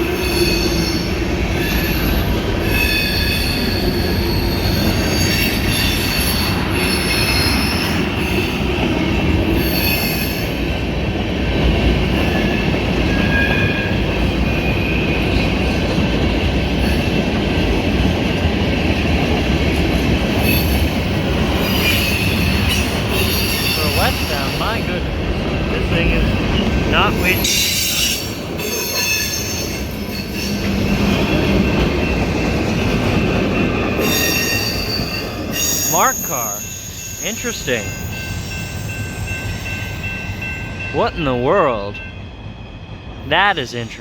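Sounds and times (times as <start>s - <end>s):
steel wheels rumbling on rail: 0.0s - 43.3s.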